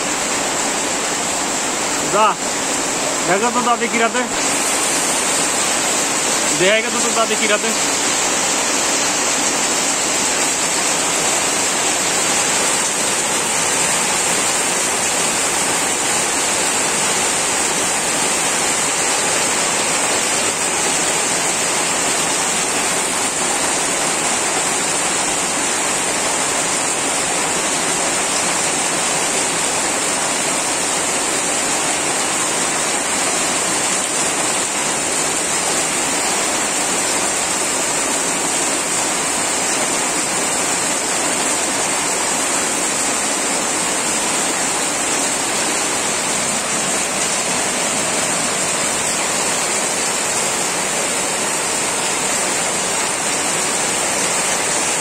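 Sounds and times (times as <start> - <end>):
torrential rain pouring: 0.0 - 55.0.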